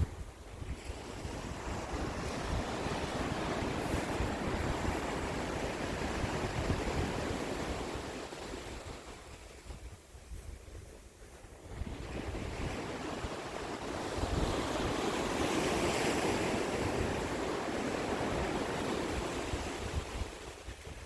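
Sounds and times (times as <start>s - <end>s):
sea waves breaking on shore: 0.0s - 9.9s, 11.1s - 21.0s
wind rumble on microphone: 0.0s - 21.0s.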